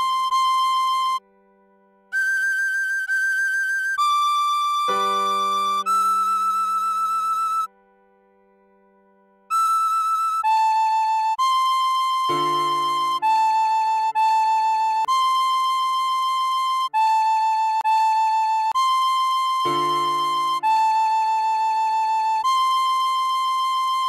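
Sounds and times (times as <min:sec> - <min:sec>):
tin whistle melody: 0:00.0 - 0:01.2, 0:02.1 - 0:07.8, 0:09.5 - 0:24.0.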